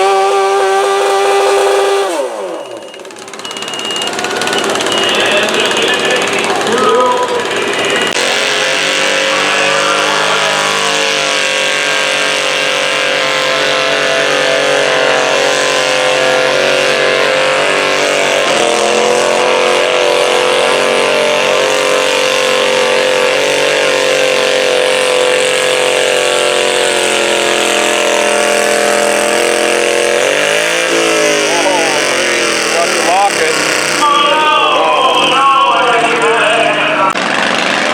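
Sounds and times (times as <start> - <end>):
tractor engine at high revs: 0.0 - 37.9.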